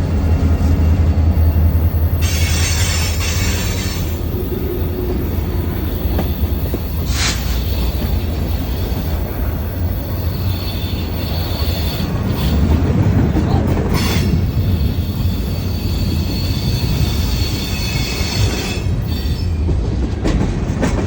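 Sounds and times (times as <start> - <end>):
freight train rumbling past: 0.0 - 21.0
wheel squeals: 1.4 - 13.1, 13.9 - 19.8.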